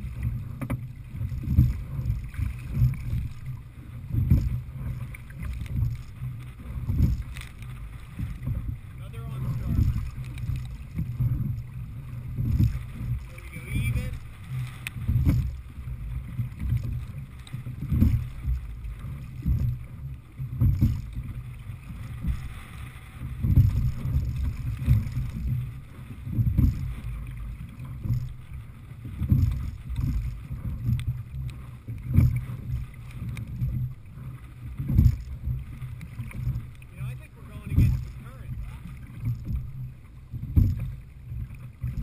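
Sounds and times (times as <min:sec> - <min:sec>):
oar stroke surge and knock: 0:00.0 - 0:42.0
water rushing along hull: 0:00.0 - 0:42.0
wind buffeting microphone: 0:00.0 - 0:42.0.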